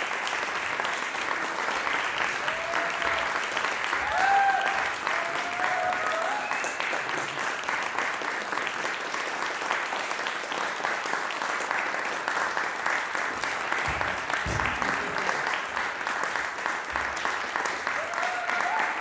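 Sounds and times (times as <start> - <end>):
audience applause: 0.0 - 19.0.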